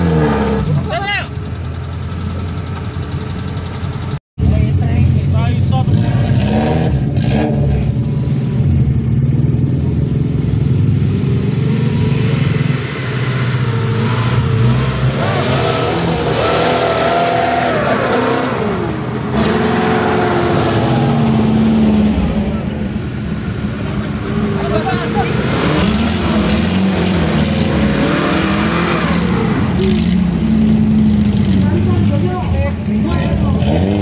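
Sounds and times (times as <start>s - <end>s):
car engine revving under load: 5.1s - 34.0s.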